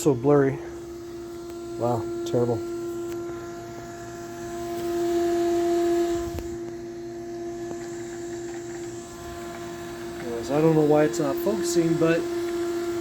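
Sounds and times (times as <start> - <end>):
sump pump motor hum: 0.0 - 13.0.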